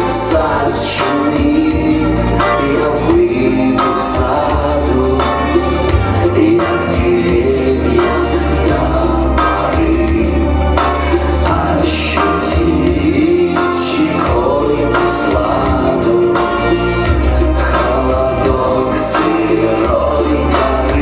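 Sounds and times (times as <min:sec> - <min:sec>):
guitar: 0:00.0 - 0:21.0
keyboards: 0:00.0 - 0:21.0
person singing: 0:00.0 - 0:21.0
steady drum beat: 0:00.0 - 0:21.0.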